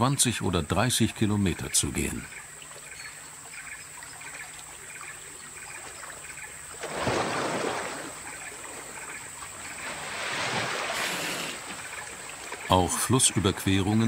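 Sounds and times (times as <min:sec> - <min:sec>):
water splashing and sloshing: 0:02.2 - 0:14.0.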